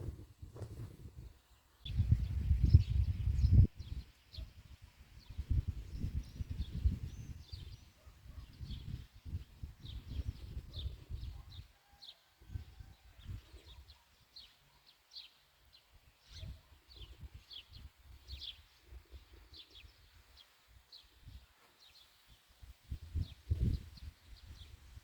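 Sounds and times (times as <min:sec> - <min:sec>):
small birds chirping: 0:00.1 - 0:12.0, 0:13.2 - 0:22.5.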